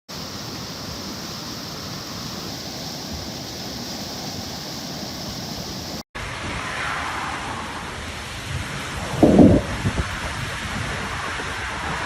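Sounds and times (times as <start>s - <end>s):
floodwater rushing: 0.1s - 12.0s.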